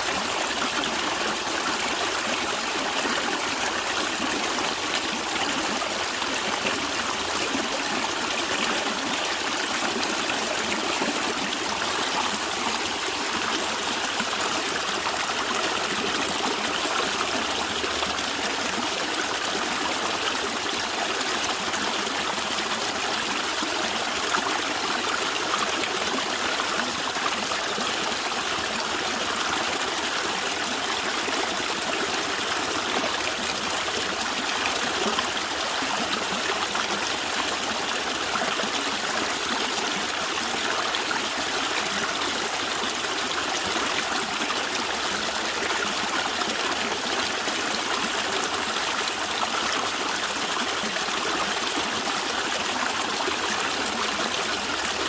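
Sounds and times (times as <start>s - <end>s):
stream water gurgling over rocks: 0.0s - 55.0s.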